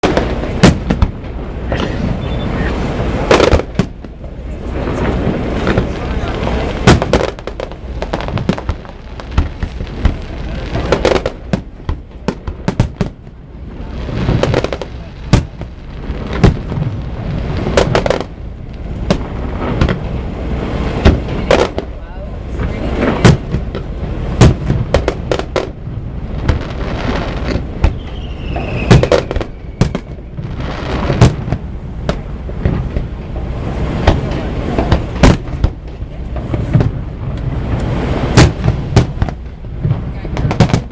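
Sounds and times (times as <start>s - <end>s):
continuous low rumble: 0.0s - 40.9s
fireworks bangs: 0.0s - 40.9s.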